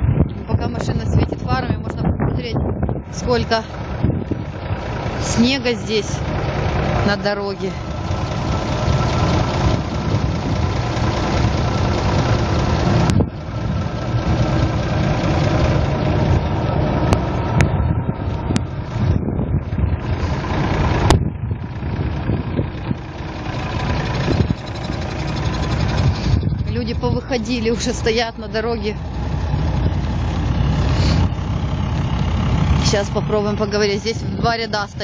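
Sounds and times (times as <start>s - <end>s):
car and lorry engines idling: 0.0s - 35.0s
wind rumbling on microphone: 0.0s - 35.0s.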